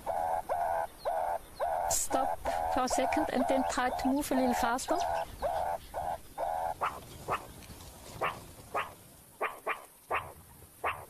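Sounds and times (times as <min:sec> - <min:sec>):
meerkat alarm calls: 0:00.0 - 0:07.5, 0:08.2 - 0:11.0.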